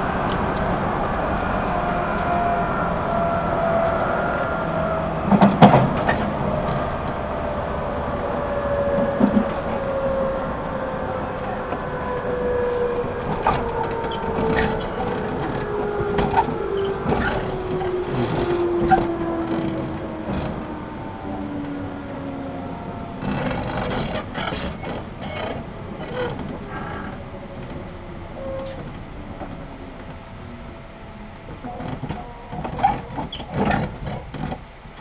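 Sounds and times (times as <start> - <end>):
train running rumble: 0.0 - 35.0.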